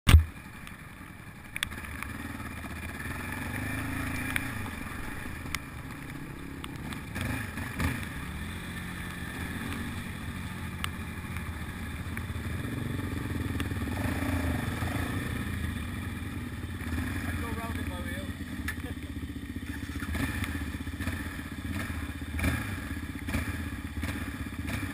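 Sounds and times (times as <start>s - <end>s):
quad bike engine: 0.1s - 24.9s.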